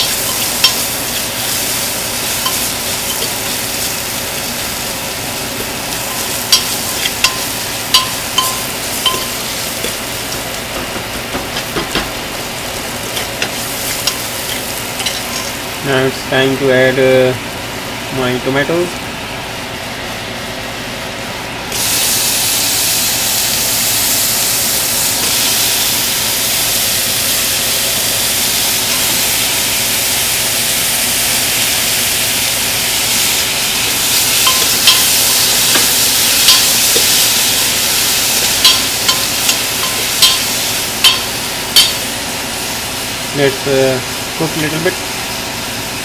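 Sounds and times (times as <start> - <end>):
food sizzling in hot oil: 0.0 - 16.1, 21.7 - 46.0.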